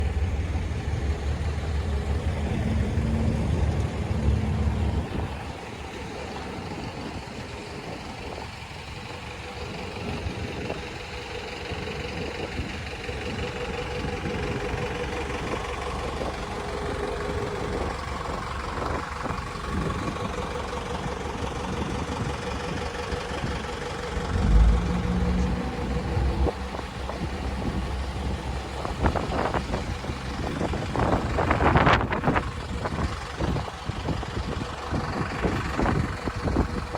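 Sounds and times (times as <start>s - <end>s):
loud low engine sound: 0.0s - 36.9s
traffic noise: 0.0s - 36.9s.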